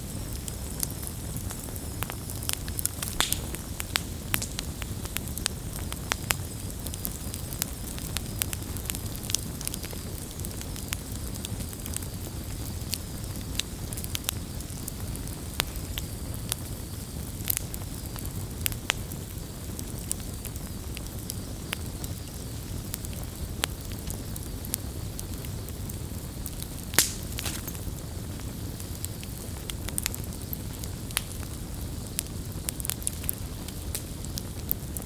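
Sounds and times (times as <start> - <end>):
campfire crackling and popping: 0.0 - 35.0
low rumble of flames: 0.0 - 35.0.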